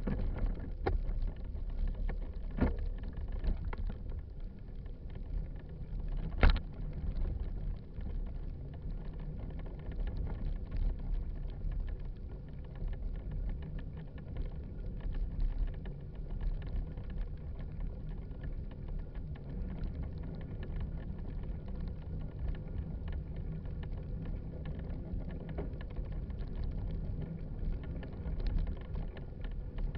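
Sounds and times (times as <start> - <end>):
bike tyres rolling on dirt: 0.0 - 29.9.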